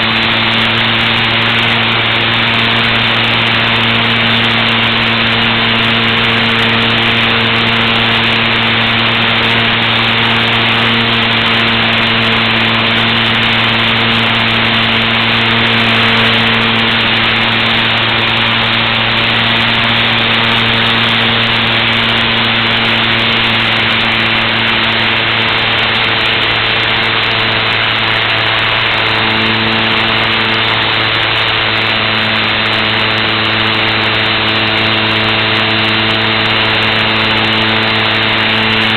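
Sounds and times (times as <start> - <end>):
electric motor and propeller hum: 0.0 - 38.9.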